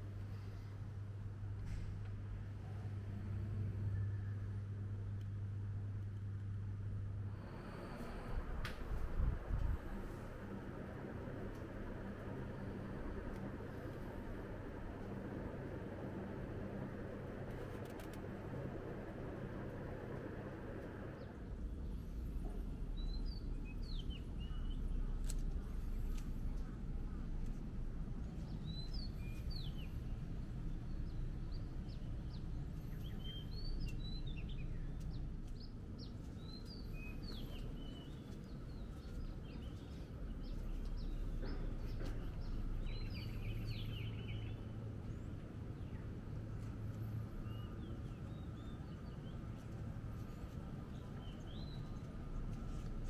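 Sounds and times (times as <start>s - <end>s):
distant traffic rumble: 0.0s - 53.0s
small birds chirping: 9.8s - 53.0s.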